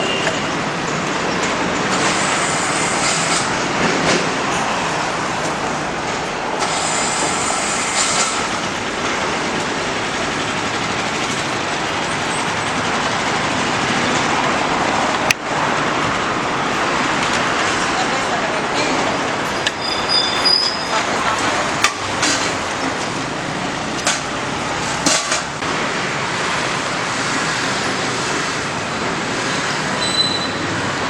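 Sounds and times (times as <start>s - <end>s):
passing vehicles: 0.0s - 31.0s.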